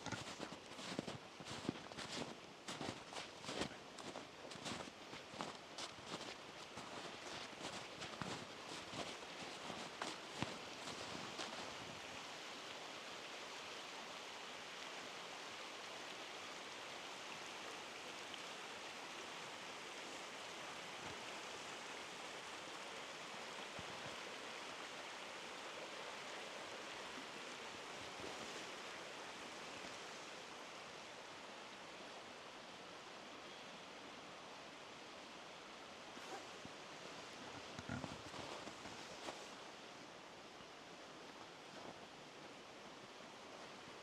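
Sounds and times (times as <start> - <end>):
running water rushing: 0.0 - 44.0.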